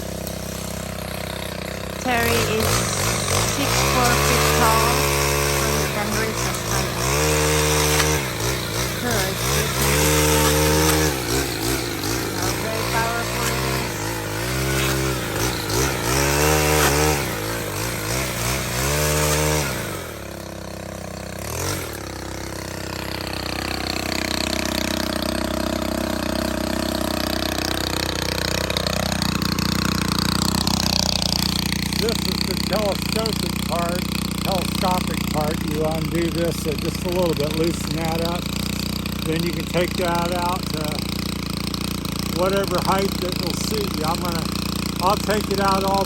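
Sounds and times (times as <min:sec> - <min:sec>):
small engine revving and idling: 0:00.0 - 0:46.0.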